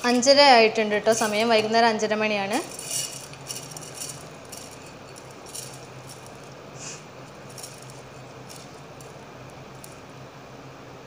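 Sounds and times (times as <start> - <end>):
rice grains rattling in a bowl: 0.0 - 10.1.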